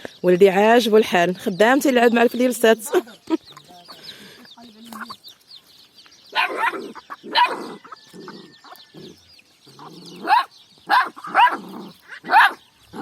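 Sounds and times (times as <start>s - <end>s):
chickens clucking: 0.0s - 13.0s
chicks cheeping: 0.0s - 13.0s.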